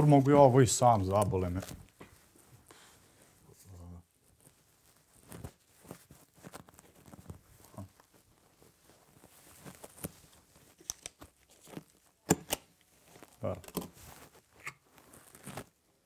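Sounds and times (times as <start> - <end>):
papers rustling: 0.1 - 2.9, 4.2 - 16.0.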